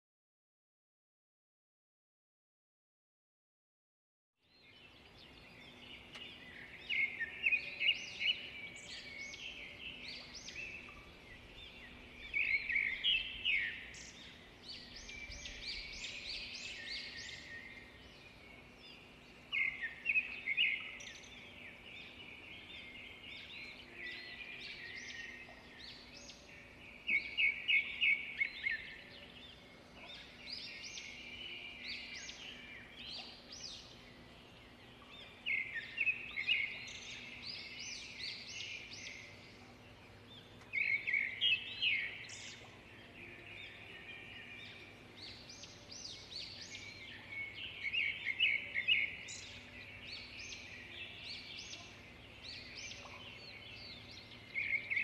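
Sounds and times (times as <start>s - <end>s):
birds chirping and twittering: 4.4s - 55.0s.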